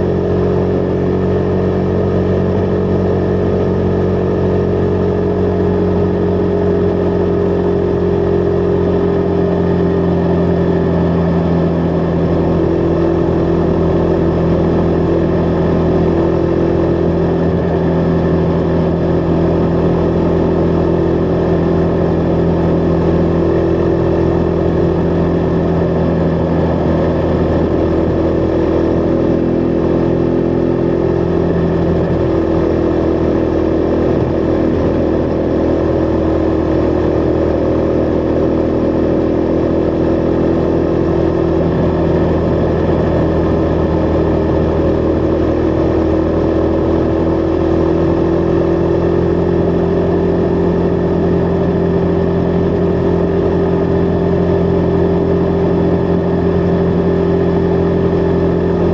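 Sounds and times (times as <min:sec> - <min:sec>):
motorcycle engine running steadily: 0:00.0 - 0:58.9.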